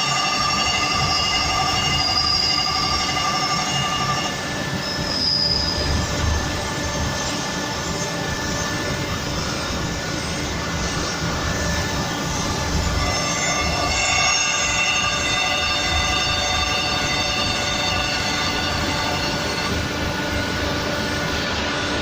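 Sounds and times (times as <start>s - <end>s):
grinding machine rumble: 0.0s - 22.0s
high-pitched grinding squeal: 0.0s - 22.0s.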